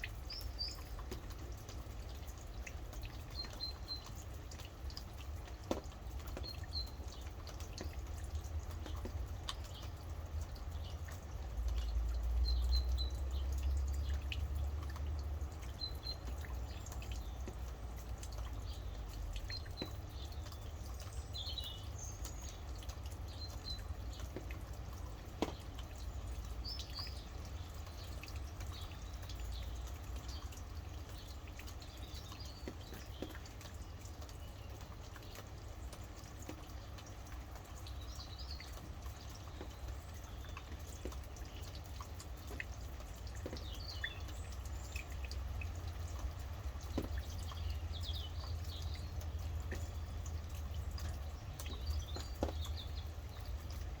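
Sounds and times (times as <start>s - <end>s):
birds chirping: 0.0s - 53.9s
rain dripping: 0.0s - 54.0s.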